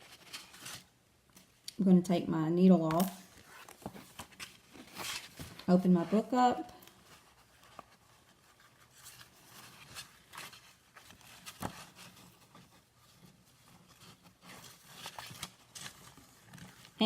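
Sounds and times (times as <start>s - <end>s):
paper pages rustling: 0.0s - 1.5s, 3.2s - 17.0s.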